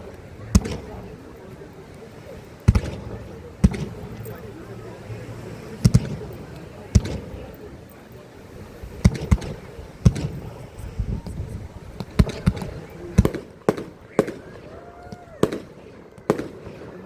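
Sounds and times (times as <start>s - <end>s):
fireworks bangs: 0.0s - 8.0s, 8.6s - 17.0s.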